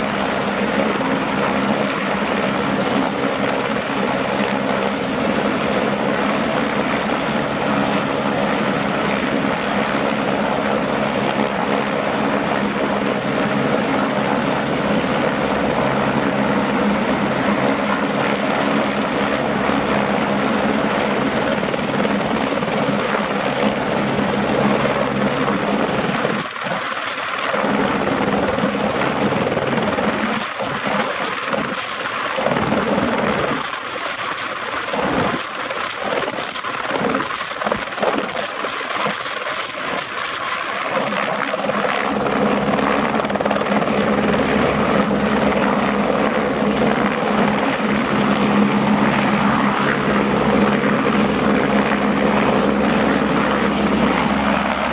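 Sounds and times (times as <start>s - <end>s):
helicopter turbine and rotors: 0.0s - 54.9s.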